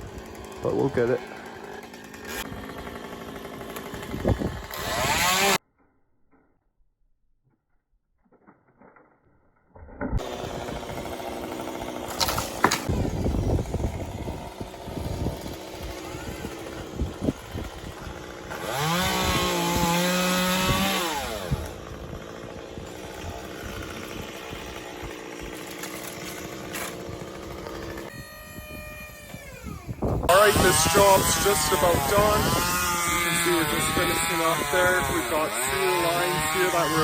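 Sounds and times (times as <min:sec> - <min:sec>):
chainsaw idling and revving: 0:00.0 - 0:05.6, 0:10.2 - 0:37.0.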